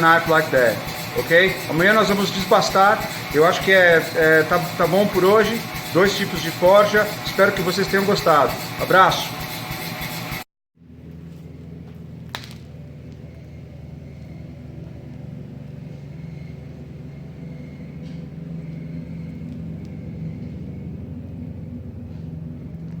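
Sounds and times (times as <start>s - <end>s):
motor humming: 0.0s - 10.4s, 11.5s - 23.0s.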